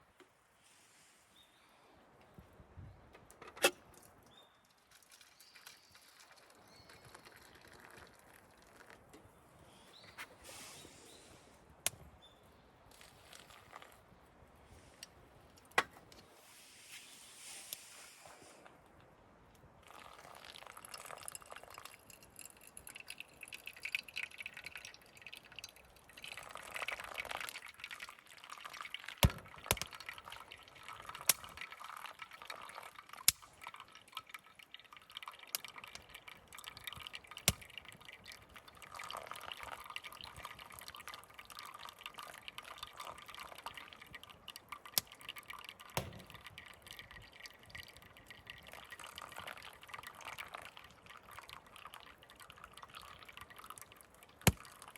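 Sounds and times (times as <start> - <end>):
liquid pouring and dripping: 3.9 - 10.4, 12.9 - 14.2, 18.6 - 54.9.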